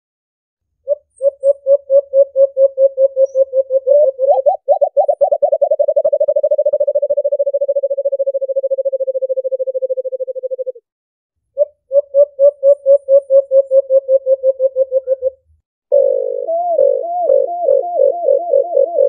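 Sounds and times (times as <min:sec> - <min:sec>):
dove calling low hoo notes: 0:00.9 - 0:10.8, 0:11.6 - 0:19.0.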